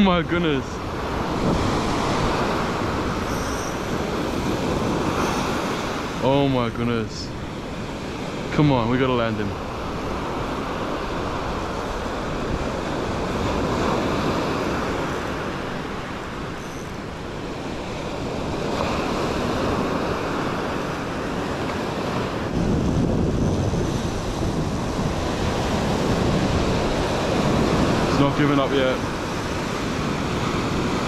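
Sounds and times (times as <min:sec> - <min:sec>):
surf washing up beach: 0:00.0 - 0:31.0
wind buffeting microphone: 0:00.0 - 0:31.0.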